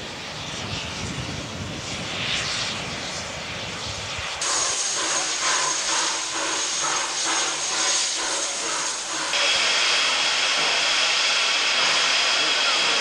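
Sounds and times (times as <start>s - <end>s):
steady hiss of escaping steam: 0.0s - 13.0s
steam locomotive rhythmic hissing: 0.0s - 13.0s.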